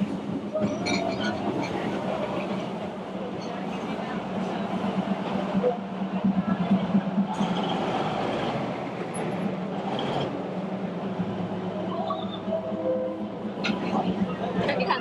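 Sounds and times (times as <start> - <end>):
diesel train engine drone: 0.0 - 15.0
rail noise: 0.0 - 15.0.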